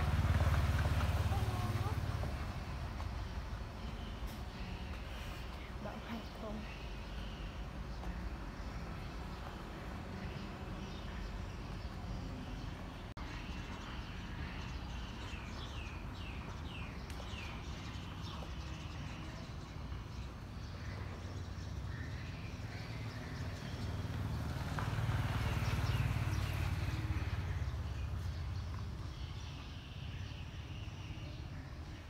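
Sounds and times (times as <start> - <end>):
low traffic rumble: 0.0 - 32.0.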